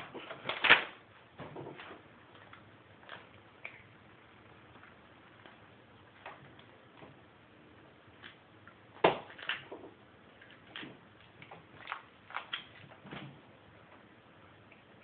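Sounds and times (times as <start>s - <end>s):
masking tape crackling: 0.0s - 15.0s.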